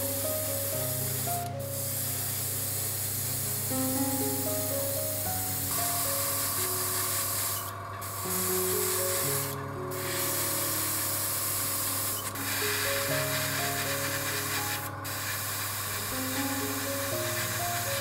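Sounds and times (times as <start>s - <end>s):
airbrush hissing: 0.0s - 18.0s
soft background music: 0.0s - 18.0s.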